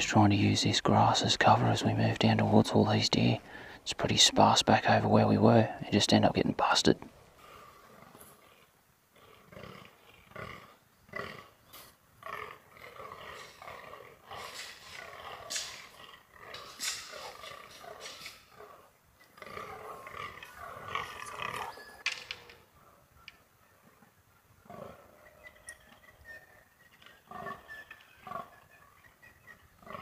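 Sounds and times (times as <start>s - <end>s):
deer croaking: 0.0s - 30.0s.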